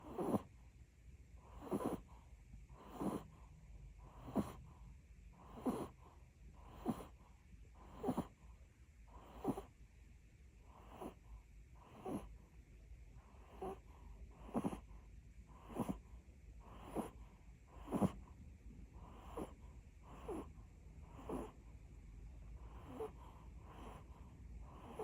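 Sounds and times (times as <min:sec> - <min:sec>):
dog snoring: 0:00.0 - 0:00.5, 0:01.4 - 0:08.5, 0:09.1 - 0:09.8, 0:10.6 - 0:12.4, 0:13.2 - 0:21.6, 0:22.5 - 0:25.0.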